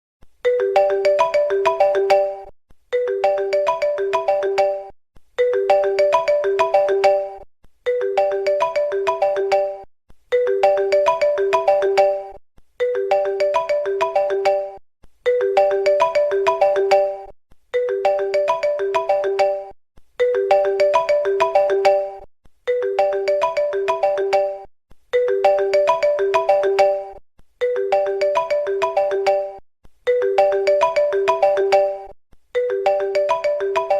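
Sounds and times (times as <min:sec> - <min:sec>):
phone ringtone melody: 0:00.5 - 0:33.9.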